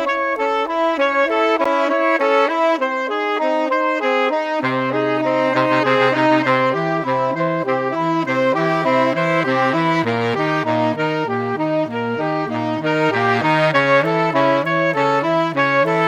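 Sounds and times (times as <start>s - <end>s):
quick stepping instrumental melody: 0.0s - 16.0s.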